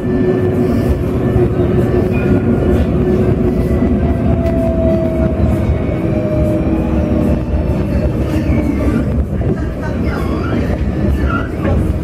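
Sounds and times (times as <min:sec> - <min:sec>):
constant hum: 0:00.0 - 0:12.0
tram wheels rumbling on rail: 0:00.0 - 0:12.0.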